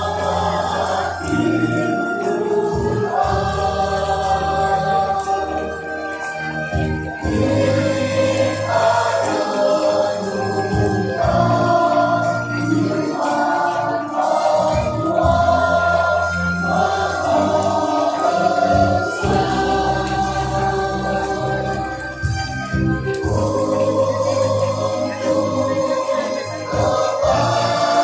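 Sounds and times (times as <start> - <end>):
choir singing long notes: 0.0 - 28.0.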